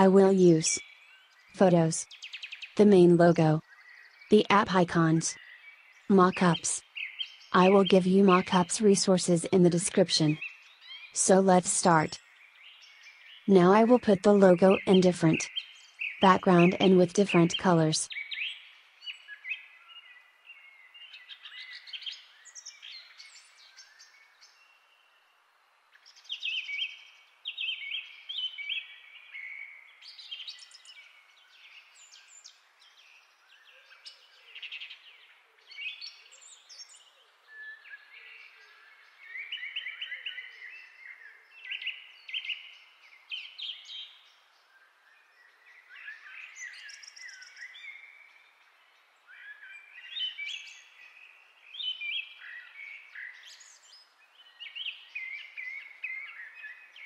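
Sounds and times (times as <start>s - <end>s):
birds chirping and singing: 0.0s - 24.8s, 26.1s - 57.0s.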